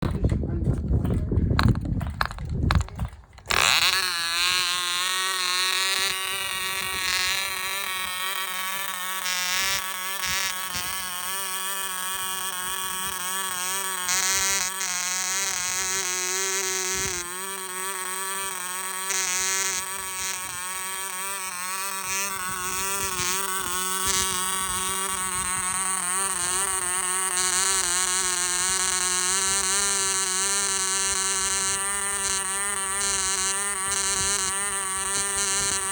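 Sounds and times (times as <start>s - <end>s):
model engine buzzing: 0.0s - 35.9s.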